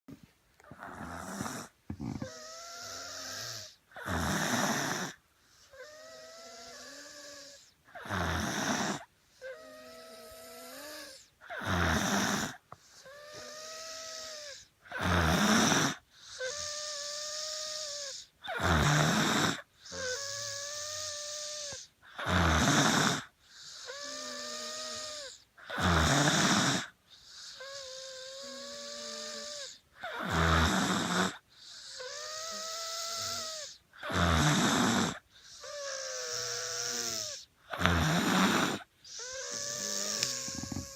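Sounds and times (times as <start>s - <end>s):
person snoring with wheeze: 0.6s - 40.9s.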